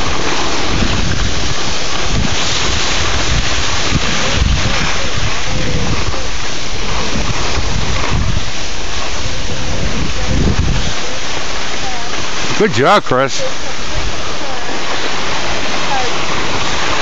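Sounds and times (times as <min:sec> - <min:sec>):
skis sliding on snow: 0:00.0 - 0:17.0
wind buffeting microphone: 0:00.0 - 0:17.0.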